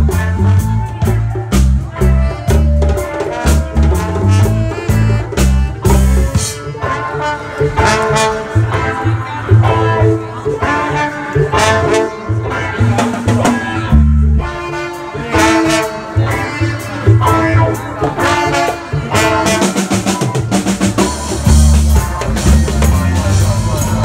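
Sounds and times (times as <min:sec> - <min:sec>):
live reggae band playing: 0:00.0 - 0:24.0
trombone melody: 0:00.0 - 0:24.0.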